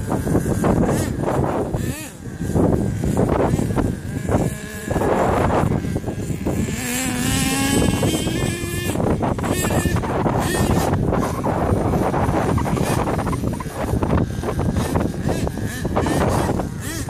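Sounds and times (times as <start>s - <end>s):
model truck engine revving: 0.0s - 17.0s.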